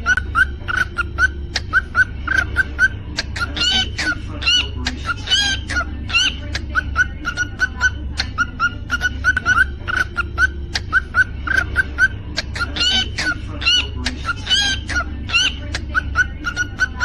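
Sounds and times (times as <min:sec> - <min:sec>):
cockatiel chirping: 0:00.0 - 0:17.0
cockatiel whistling: 0:00.0 - 0:17.0
steady low hum: 0:00.0 - 0:17.0.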